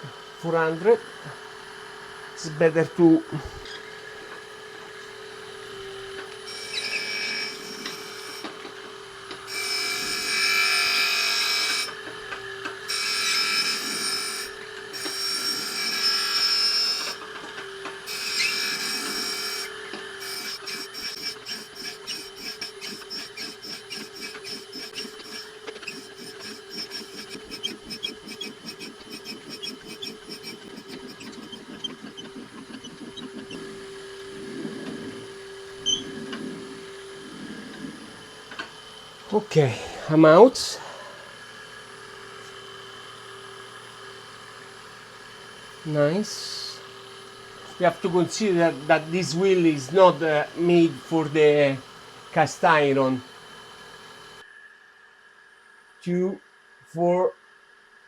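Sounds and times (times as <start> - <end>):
grinder wheel grinding metal: 0.0 - 54.4
steady machine hum: 0.0 - 58.0.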